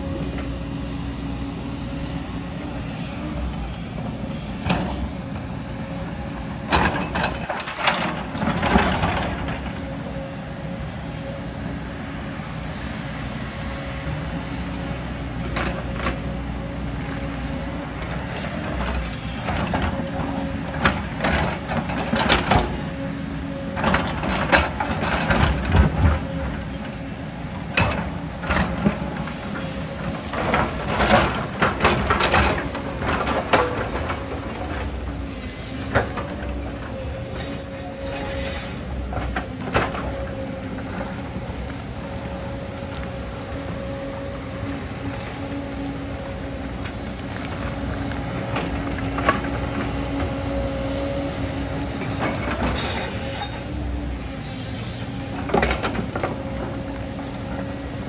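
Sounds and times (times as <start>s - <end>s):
excavator diesel engine whining: 0.0s - 58.0s.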